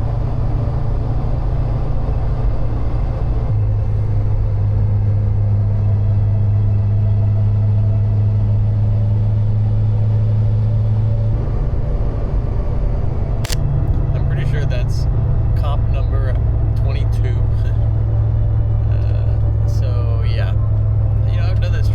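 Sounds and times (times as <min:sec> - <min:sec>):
car engine and road noise: 0:00.0 - 0:21.9.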